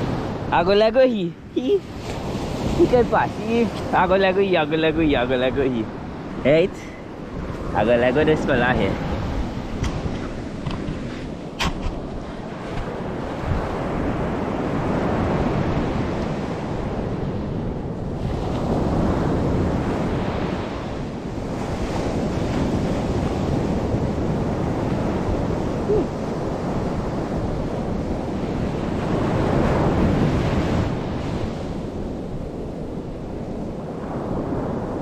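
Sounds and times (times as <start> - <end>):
surf breaking on beach: 0.0 - 35.0
wind buffeting microphone: 0.0 - 35.0.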